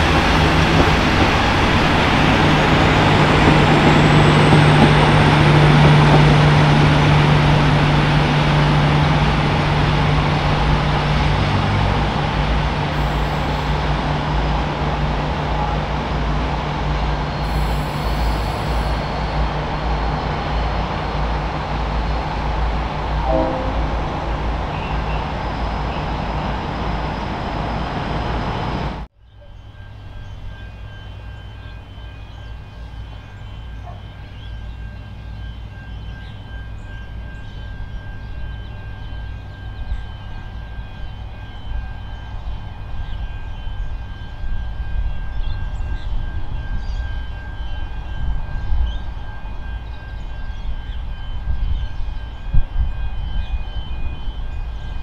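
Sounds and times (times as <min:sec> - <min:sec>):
diesel locomotives running: 0:00.0 - 0:55.0
low rumble of approaching train: 0:00.0 - 0:55.0.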